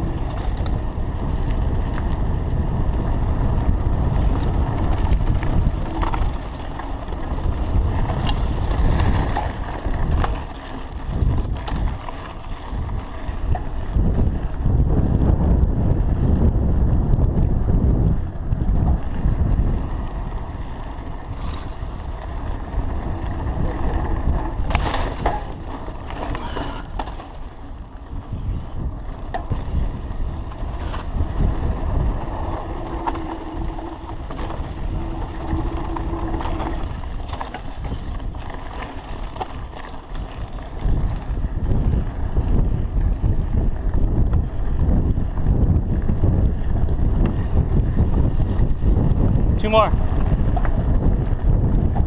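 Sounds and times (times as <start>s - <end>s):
tyre rumble on dirt: 0.0s - 16.9s, 18.8s - 52.0s
bike knocks and rattles: 0.0s - 52.0s
wind rushing over microphone: 0.0s - 52.0s.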